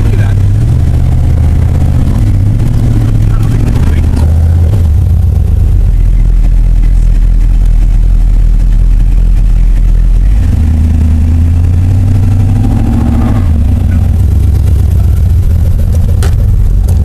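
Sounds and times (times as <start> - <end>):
pickup truck engine revving: 0.0 - 17.0.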